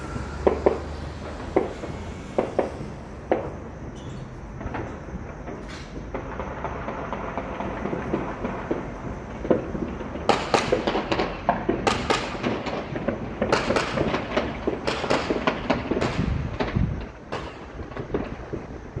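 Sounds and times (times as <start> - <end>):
fireworks banging: 0.0 - 19.0.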